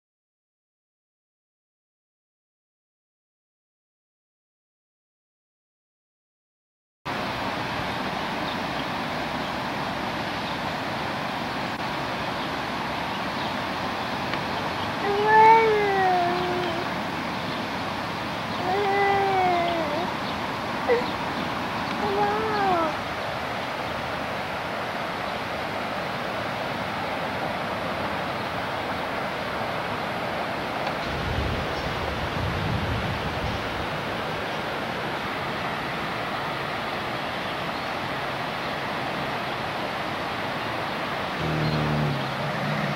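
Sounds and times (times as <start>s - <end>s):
fast river current rushing: 7.1s - 42.9s.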